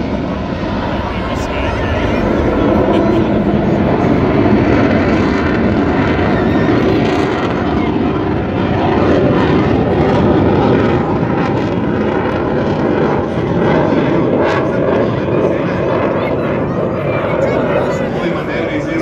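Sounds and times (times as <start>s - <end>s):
jet engine passing overhead: 0.0s - 19.0s.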